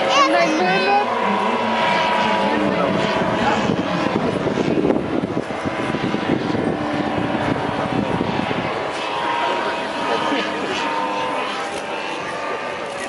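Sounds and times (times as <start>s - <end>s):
model airplane propeller engines: 0.0s - 13.0s.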